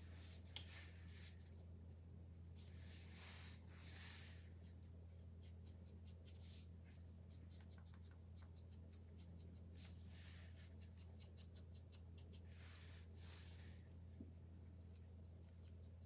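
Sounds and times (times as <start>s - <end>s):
steady low hum: 0.0s - 16.0s
paintbrush swishes: 2.5s - 15.9s.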